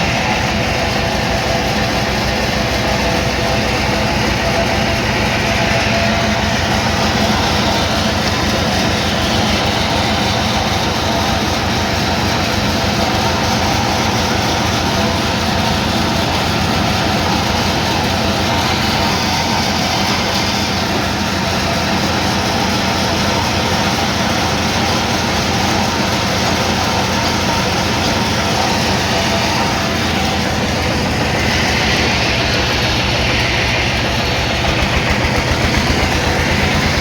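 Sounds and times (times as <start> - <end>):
saw cutting a log: 0.0 - 37.0
sawmill engine drone: 0.0 - 37.0.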